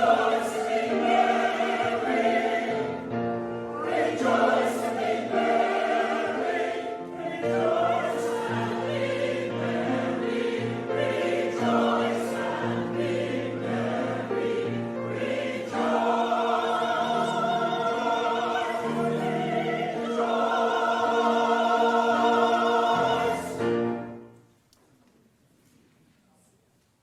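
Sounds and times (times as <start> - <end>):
church choir singing chords: 0.0 - 24.4.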